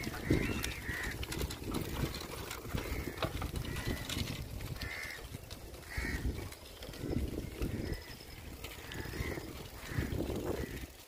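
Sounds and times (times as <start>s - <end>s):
birds calling: 0.0s - 11.0s
wind rumble on microphone: 0.0s - 11.0s.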